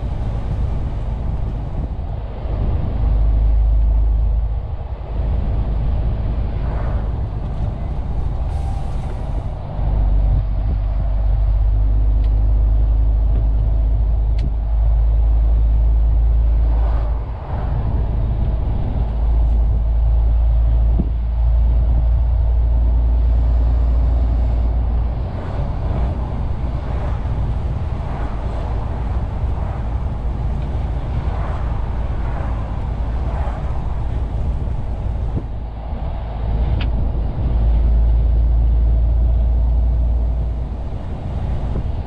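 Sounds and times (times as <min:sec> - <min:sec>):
road noise: 0:00.0 - 0:42.0
truck diesel engine rumble: 0:00.0 - 0:42.0.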